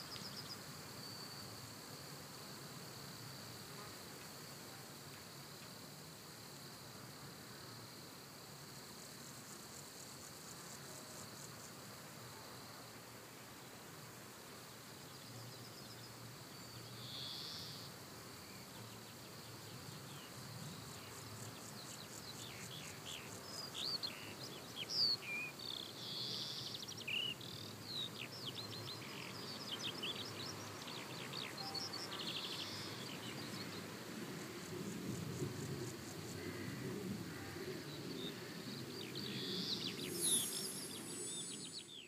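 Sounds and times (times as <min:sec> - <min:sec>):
faint high outdoor hiss: 0:00.0 - 0:42.0.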